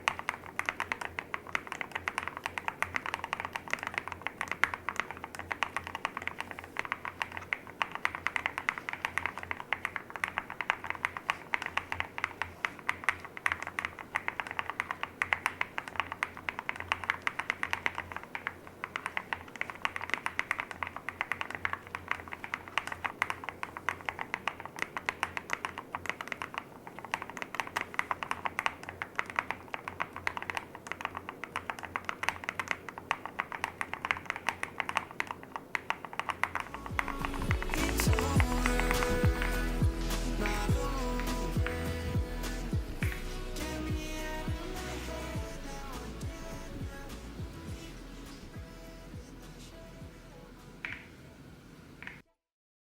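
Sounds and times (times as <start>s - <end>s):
fast typing on mechanical keyboard: 0.0s - 47.1s.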